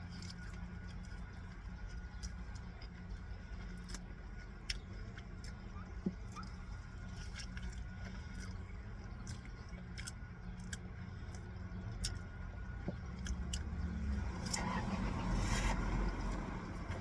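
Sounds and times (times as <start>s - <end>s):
person chewing food: 0.0s - 14.6s
steady low hum: 0.0s - 17.0s.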